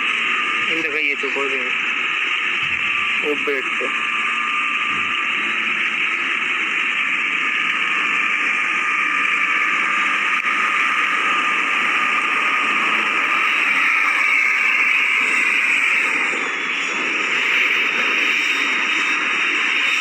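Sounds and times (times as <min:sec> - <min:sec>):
thin steady whine: 0:00.0 - 0:20.0.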